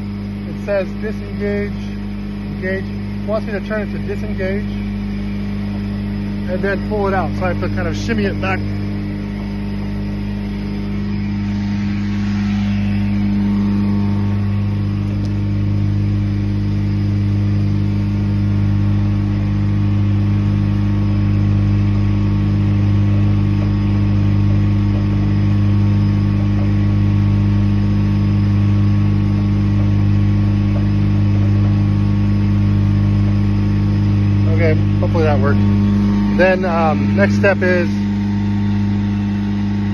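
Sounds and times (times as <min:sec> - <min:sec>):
engine running with deep hum: 0:00.0 - 0:39.9.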